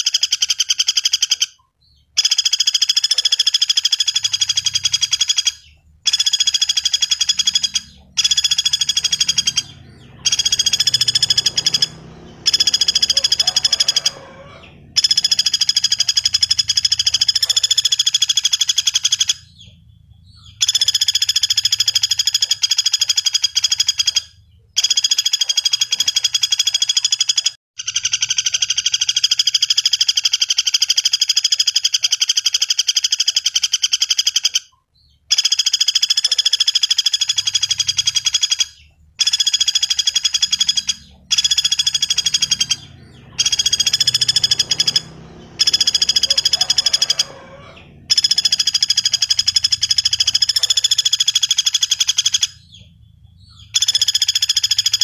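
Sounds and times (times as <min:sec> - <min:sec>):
woodpecker rattling trill: 0:00.0 - 0:55.0.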